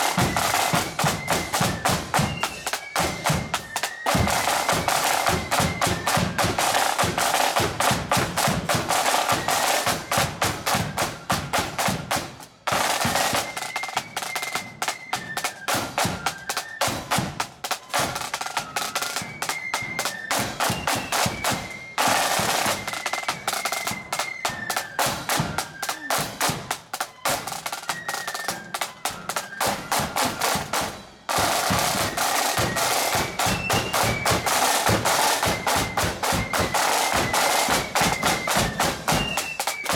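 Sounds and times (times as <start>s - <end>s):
marching band playing: 0.0s - 39.9s
side drums beating rolls: 0.0s - 39.9s.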